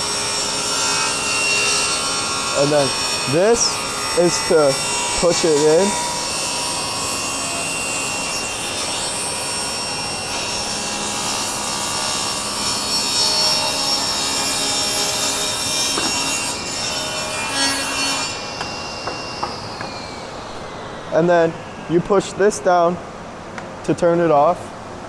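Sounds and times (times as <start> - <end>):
table saw cutting wood: 0.0 - 22.9.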